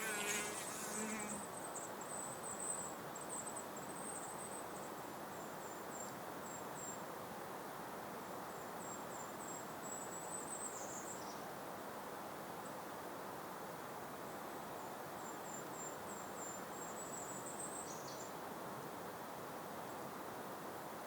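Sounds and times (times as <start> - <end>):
gentle breeze hiss: 0.0 - 21.0.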